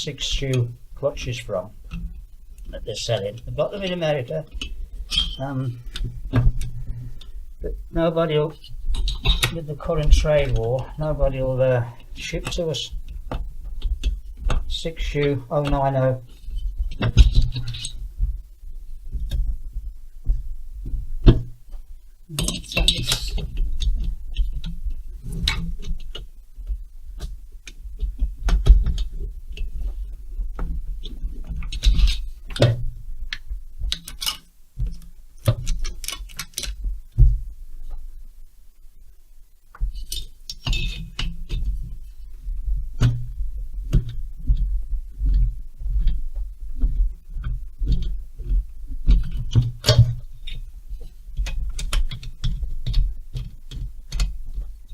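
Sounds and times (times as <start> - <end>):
handling thumps: 0.0 - 38.2, 39.5 - 54.9.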